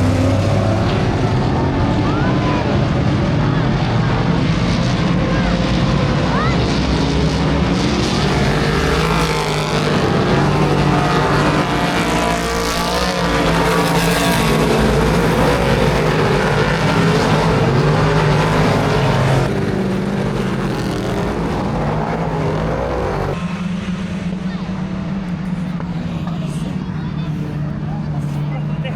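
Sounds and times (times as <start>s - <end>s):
car engines revving: 0.0s - 28.9s.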